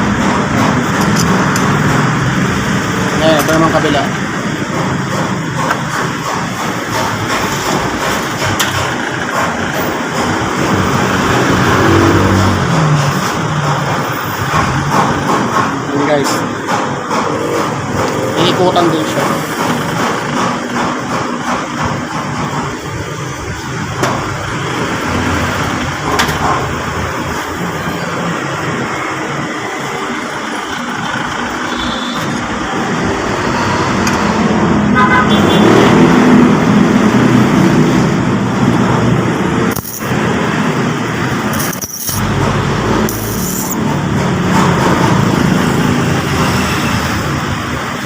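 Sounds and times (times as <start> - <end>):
vehicle engines passing: 0.0 - 22.0, 22.6 - 48.0
traffic noise: 0.0 - 48.0.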